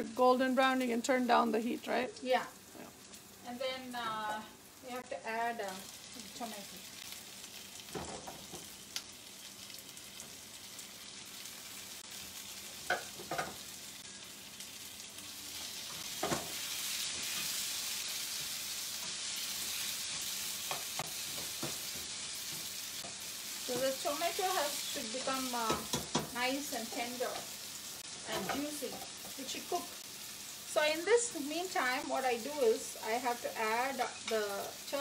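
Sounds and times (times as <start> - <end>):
tomato sizzling in hot oil: 0.0 - 35.0.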